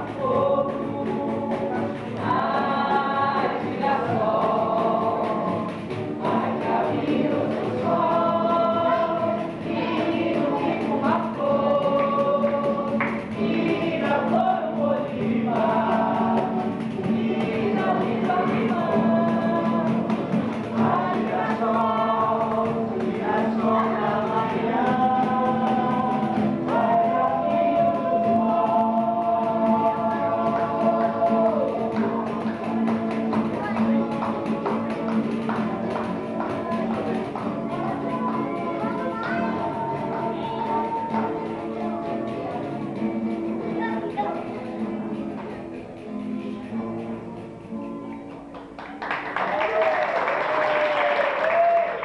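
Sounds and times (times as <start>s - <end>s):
group of voices singing: 0.0s - 45.7s.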